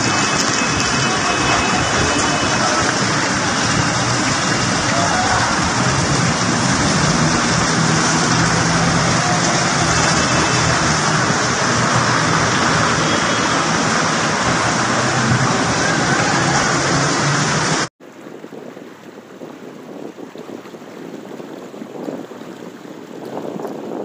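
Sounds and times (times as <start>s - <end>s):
rain: 0.0s - 24.0s
rushing floodwater: 0.0s - 24.0s.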